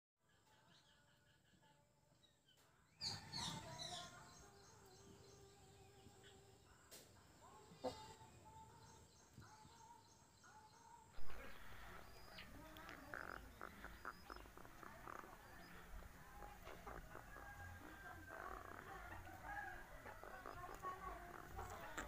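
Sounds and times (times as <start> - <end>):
small birds chirping: 0.2 - 22.0.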